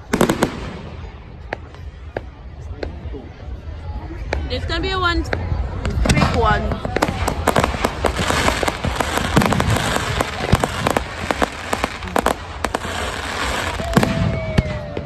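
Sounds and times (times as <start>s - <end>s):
fireworks crackling: 0.0s - 3.0s, 5.2s - 15.0s
fireworks bangs and cracks: 0.0s - 3.1s, 5.2s - 15.0s.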